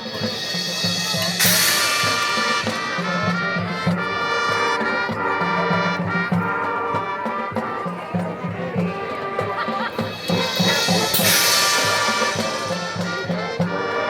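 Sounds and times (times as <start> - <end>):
marching band playing: 0.0 - 14.0.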